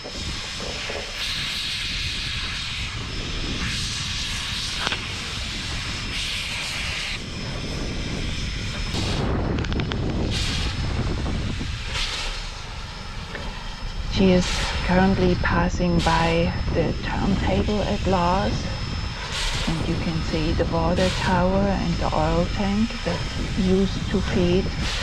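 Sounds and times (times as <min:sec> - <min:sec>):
steam hissing bursts: 0:00.0 - 0:07.3, 0:08.9 - 0:25.0
steam locomotive rumble: 0:00.0 - 0:25.0.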